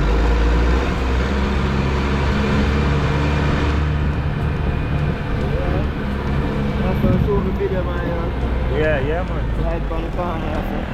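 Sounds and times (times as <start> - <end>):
road noise: 0.0 - 10.9
vehicle engine drone: 0.0 - 10.9
wind noise: 0.0 - 10.9.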